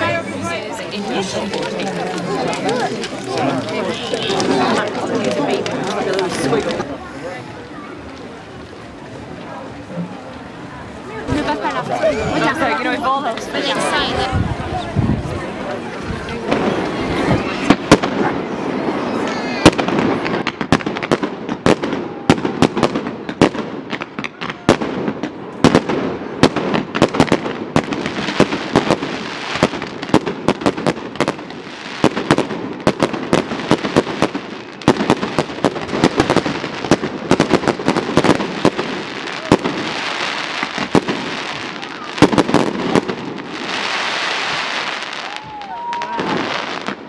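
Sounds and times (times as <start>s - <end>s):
crackling hiss of fireworks: 0.0s - 47.0s.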